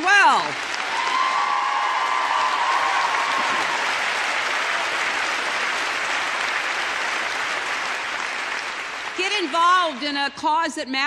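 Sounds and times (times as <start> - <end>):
crowd clapping: 0.0 - 10.4.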